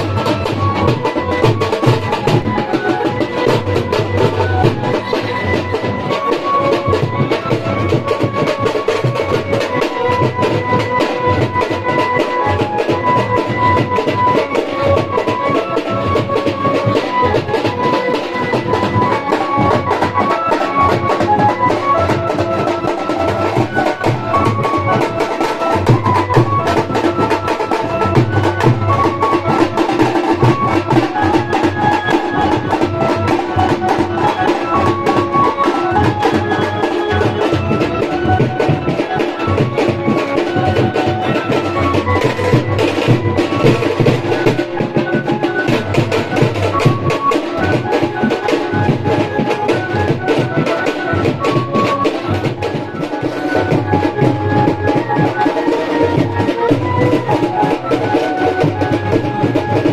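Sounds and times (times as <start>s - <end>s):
barrel drums beaten fast: 0.0s - 59.9s
held melody line: 0.0s - 59.9s.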